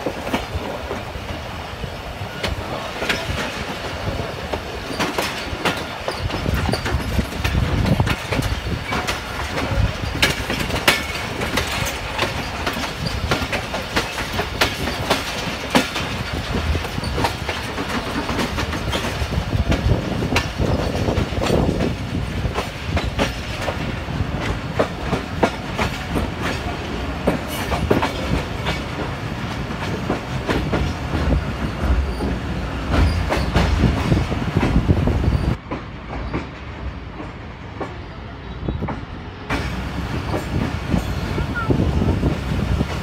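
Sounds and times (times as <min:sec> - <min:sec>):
wheels clacking over rail joints: 0:00.0 - 0:38.2
train rumbling: 0:00.0 - 0:43.0.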